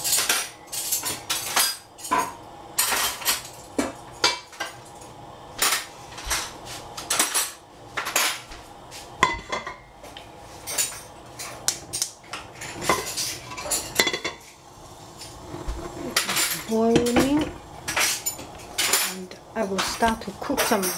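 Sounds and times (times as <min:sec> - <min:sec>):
metal cookware clattering: 0:00.0 - 0:04.9, 0:05.6 - 0:08.5, 0:09.2 - 0:09.9, 0:10.6 - 0:14.6, 0:15.2 - 0:20.9.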